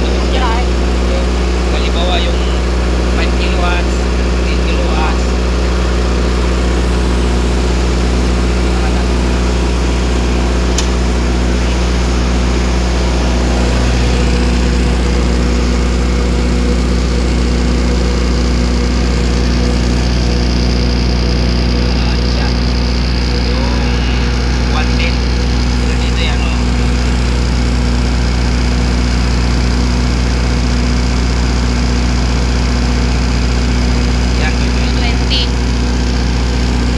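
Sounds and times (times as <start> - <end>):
diesel generator running: 0.0 - 36.9.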